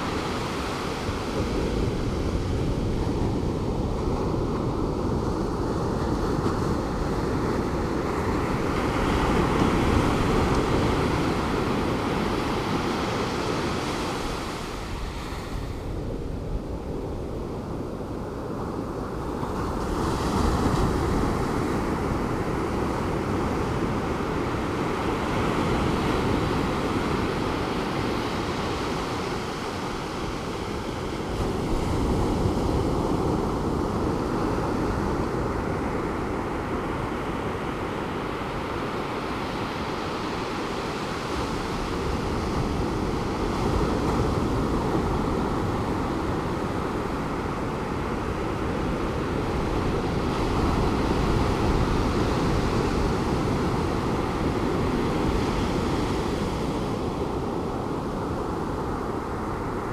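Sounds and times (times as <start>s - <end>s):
ocean surf breaking: 0.0s - 59.9s
wind on microphone: 0.0s - 59.9s.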